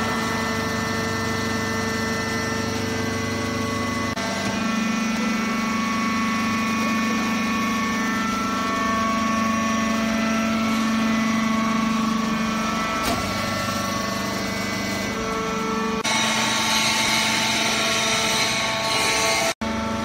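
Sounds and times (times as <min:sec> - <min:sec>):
hydraulic power unit humming whine: 0:00.0 - 0:20.0.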